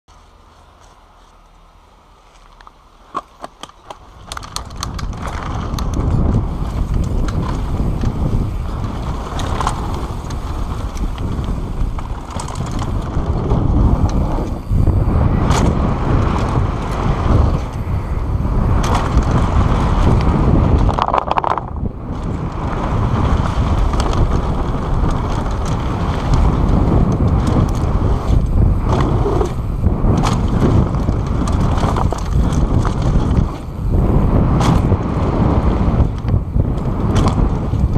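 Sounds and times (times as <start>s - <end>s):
bike tyres rattling over dirt: 0.1s - 37.9s
wind on microphone: 4.0s - 37.9s.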